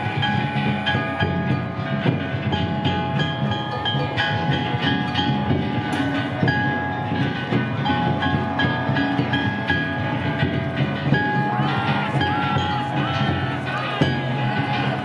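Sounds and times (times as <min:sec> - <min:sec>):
bronze hand gongs ringing: 0:00.0 - 0:15.0
taiko drum beating: 0:00.0 - 0:15.0.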